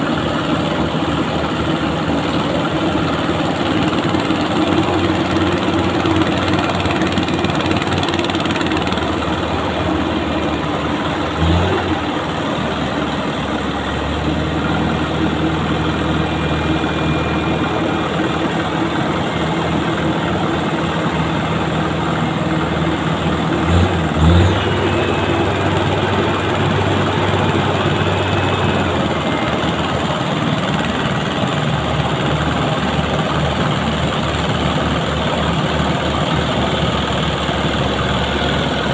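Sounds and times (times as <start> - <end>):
truck engine running: 0.0 - 38.9
truck engine revving: 1.2 - 38.9.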